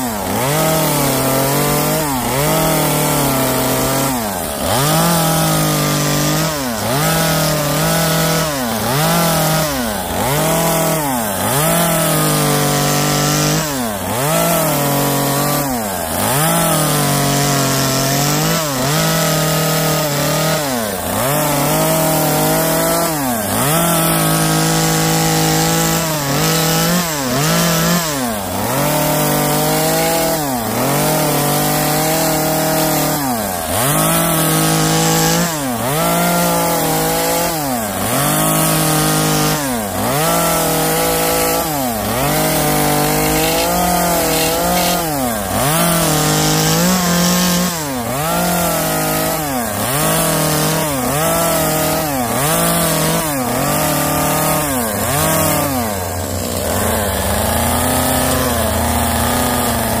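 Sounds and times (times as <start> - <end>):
chainsaw idling: 0.0 - 60.0
chainsaw revving and cutting wood: 0.0 - 60.0.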